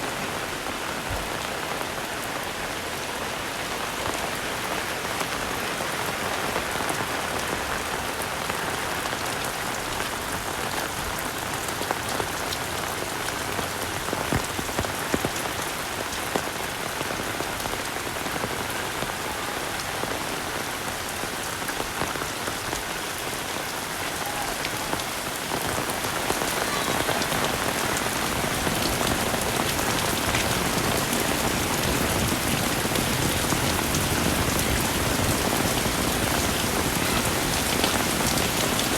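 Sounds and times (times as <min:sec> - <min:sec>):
heavy rain falling: 0:00.0 - 0:38.9
raindrops striking close by: 0:00.0 - 0:38.9.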